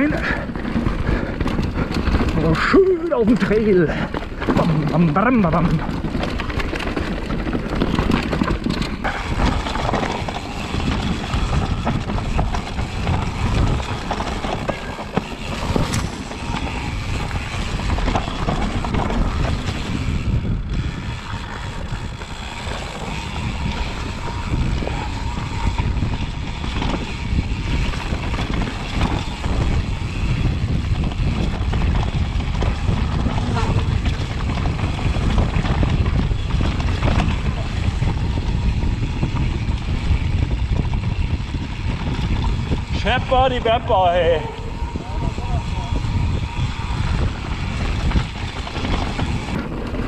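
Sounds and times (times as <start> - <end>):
bike rattling clicks and knocks: 0.0 - 50.0
tyre noise on dirt: 0.0 - 50.0
wind buffeting microphone: 0.0 - 50.0.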